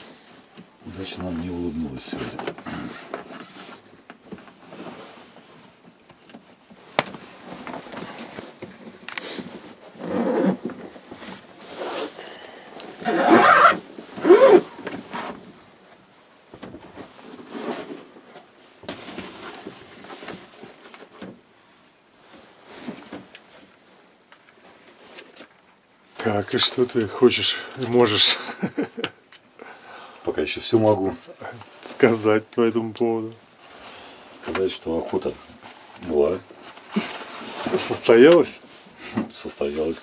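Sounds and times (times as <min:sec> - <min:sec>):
clothing rustling: 0:00.0 - 0:21.5, 0:22.1 - 0:28.2, 0:30.8 - 0:40.0.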